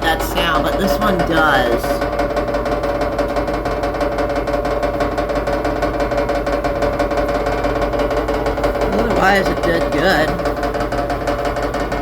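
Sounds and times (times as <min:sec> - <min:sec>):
fast continuous rattle: 0:00.0 - 0:12.0
washing machine spinning: 0:00.0 - 0:12.0.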